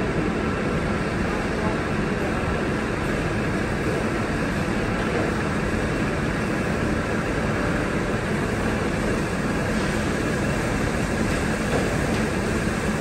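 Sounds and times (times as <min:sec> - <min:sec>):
steam locomotive rumble and hiss: 0:00.0 - 0:13.0.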